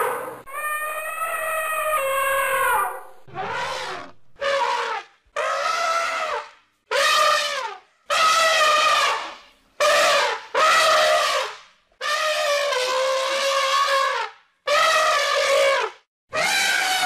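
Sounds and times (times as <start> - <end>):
elephant trumpeting: 0.0 - 11.4, 12.0 - 17.0.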